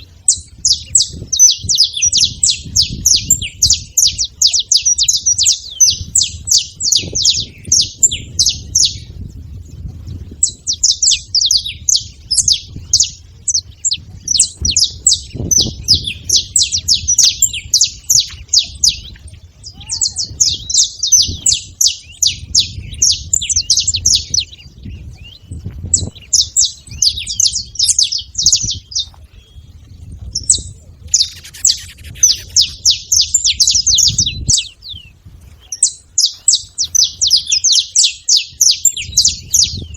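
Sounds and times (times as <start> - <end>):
finch chirping: 0.0 - 39.9.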